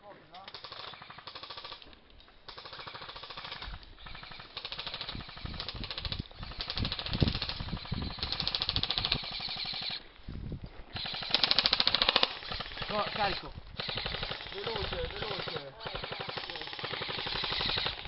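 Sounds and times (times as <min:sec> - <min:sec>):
airsoft rifles full-auto fire: 0:00.4 - 0:01.9, 0:02.5 - 0:10.0, 0:10.9 - 0:18.0.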